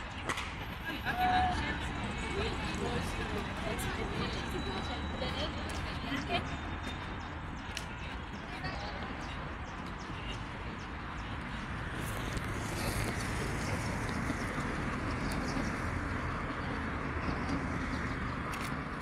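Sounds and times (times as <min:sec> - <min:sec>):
roadside traffic: 0:00.0 - 0:19.0.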